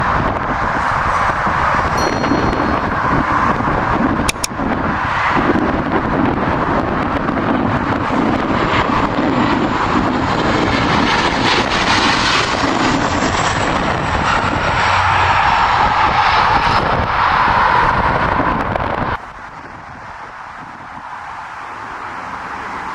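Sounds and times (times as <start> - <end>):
airliner engines landing: 0.0 - 22.9.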